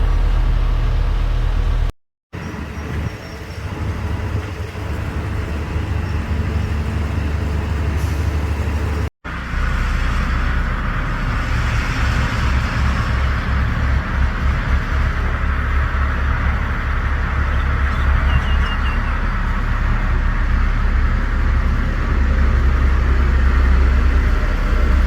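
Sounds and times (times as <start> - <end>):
heavy diesel engine rumbling: 0.0 - 25.0.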